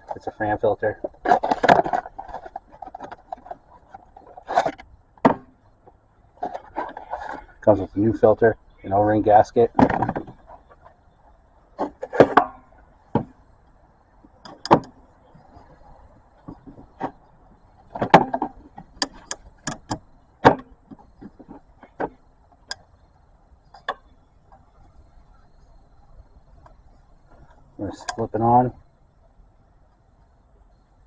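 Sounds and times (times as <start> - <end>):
hard parts clicking and tapping: 0.0 - 8.4, 11.8 - 28.8.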